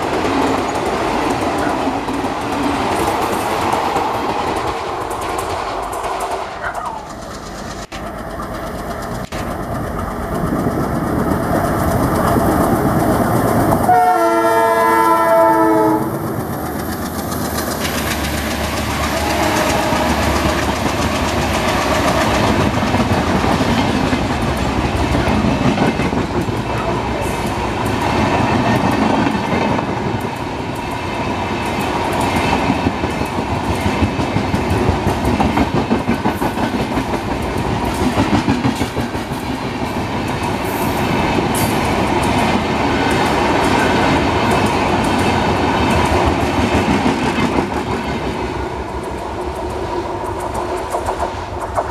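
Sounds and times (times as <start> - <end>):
train wheels clickety-clack: 0.0 - 51.9
train wheels rushing on rails: 0.0 - 51.9.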